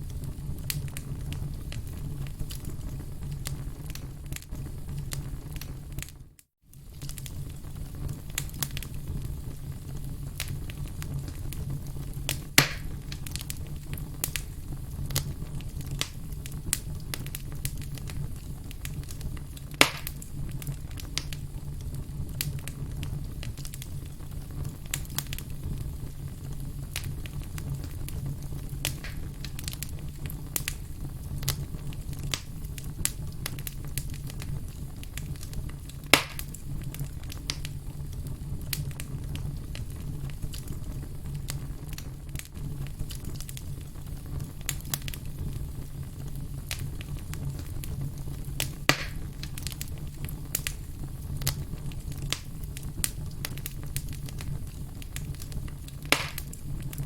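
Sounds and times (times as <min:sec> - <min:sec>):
campfire crackling: 0:00.0 - 0:57.0
sharp fire pops: 0:00.0 - 0:57.0.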